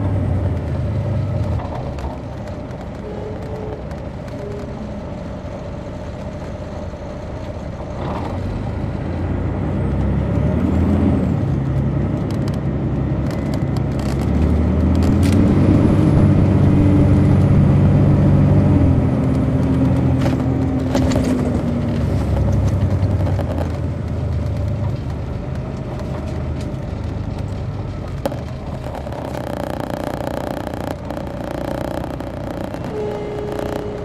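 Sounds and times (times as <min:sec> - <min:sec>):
diesel bus engine running: 0:00.0 - 0:34.0.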